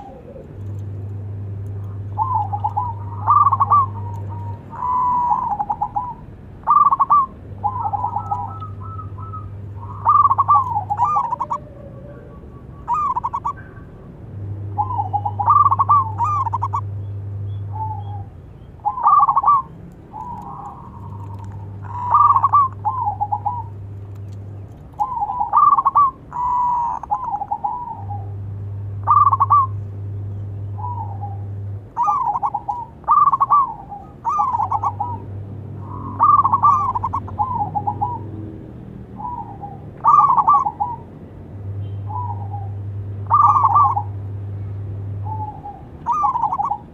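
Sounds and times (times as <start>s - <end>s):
doves cooing: 0.0s - 46.9s
low steady hum: 0.0s - 46.9s.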